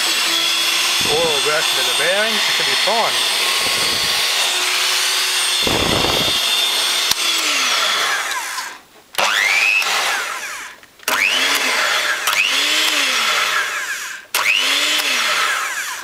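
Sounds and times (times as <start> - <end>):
hand mixer motor whine: 0.0 - 16.0.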